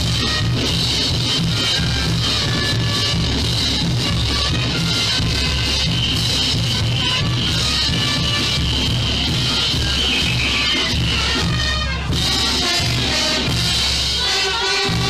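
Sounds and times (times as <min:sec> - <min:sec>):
loud band music with beat: 0:00.0 - 0:15.0.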